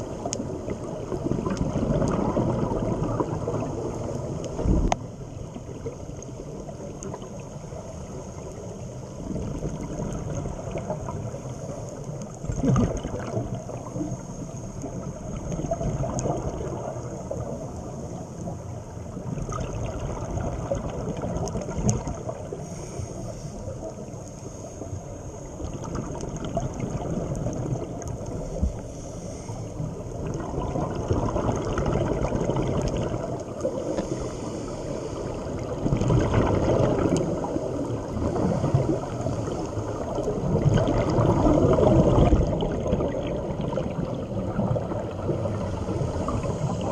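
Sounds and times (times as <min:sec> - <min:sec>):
gurgling exhaled bubbles: 0:00.0 - 0:24.2, 0:24.8 - 0:46.9.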